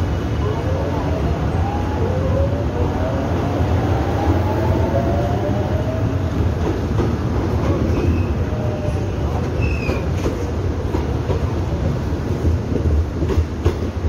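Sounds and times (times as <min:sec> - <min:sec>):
train rumbling and wheels clacking: 0:00.0 - 0:14.0.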